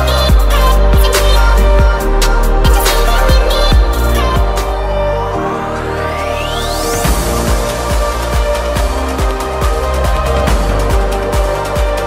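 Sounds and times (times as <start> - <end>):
electronic dance music: 0.0 - 12.0
rising synth sweep: 2.0 - 12.0.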